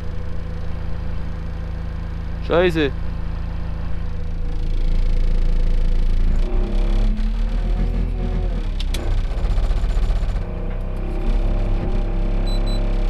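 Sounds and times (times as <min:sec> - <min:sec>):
diesel engine running under load: 0:00.0 - 0:13.0
whining tones: 0:00.0 - 0:13.0.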